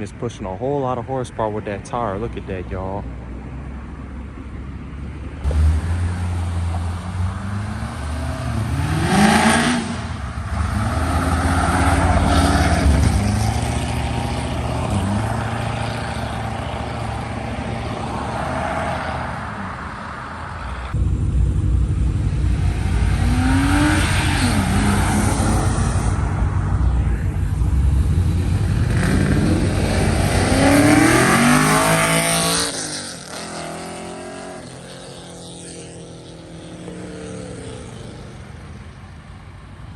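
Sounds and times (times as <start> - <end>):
car engines revving hard: 5.4 - 21.0, 21.8 - 38.8.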